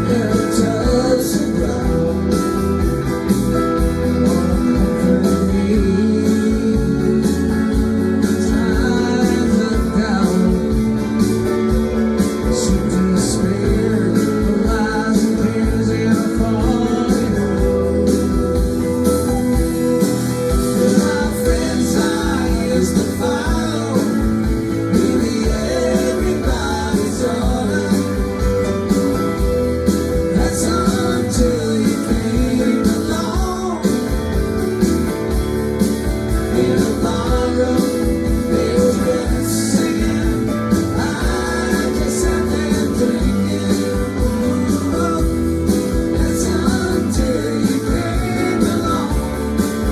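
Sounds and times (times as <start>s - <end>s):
person singing: 0.0s - 3.0s, 4.0s - 11.2s, 12.2s - 19.0s, 20.4s - 29.0s, 29.7s - 34.4s, 36.5s - 49.9s
guitars: 0.0s - 49.9s
steady drum beat: 0.0s - 49.9s.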